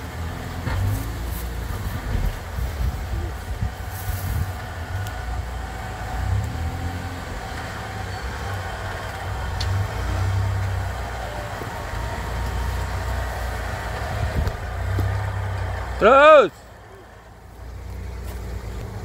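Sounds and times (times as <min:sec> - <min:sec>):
vehicle engine low rumble: 0:00.0 - 0:19.0.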